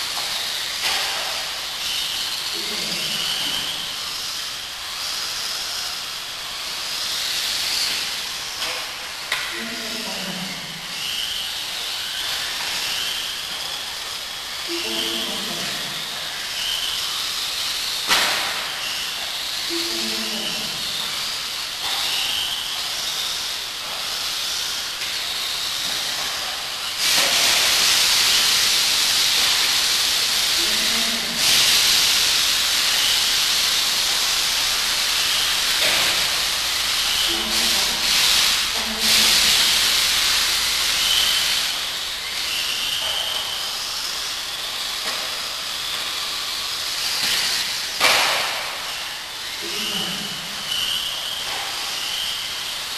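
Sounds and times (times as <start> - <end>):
high motor whines: 0.0 - 52.9
rc buggy motors and tyres hissing: 0.0 - 52.9.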